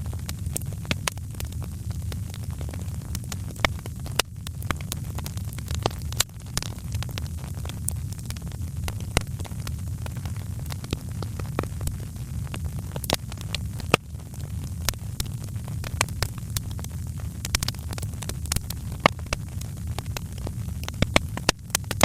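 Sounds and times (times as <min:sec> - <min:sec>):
fire crackling and popping: 0:00.0 - 0:22.0
fire low rumble: 0:00.0 - 0:22.0.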